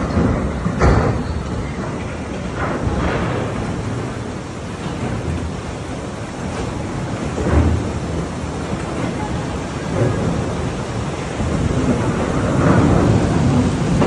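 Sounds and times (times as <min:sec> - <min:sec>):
heavy rain and floodwater rushing: 0:00.0 - 0:14.0
wind rumbling on microphone: 0:00.0 - 0:14.0.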